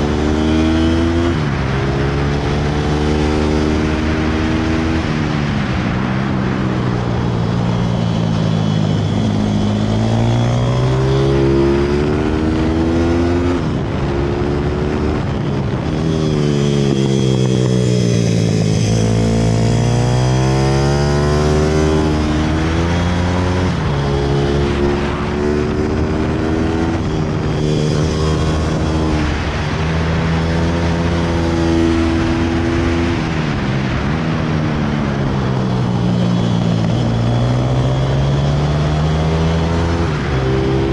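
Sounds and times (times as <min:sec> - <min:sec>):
motorbike engine revving: 0:00.0 - 0:05.2, 0:07.6 - 0:40.9.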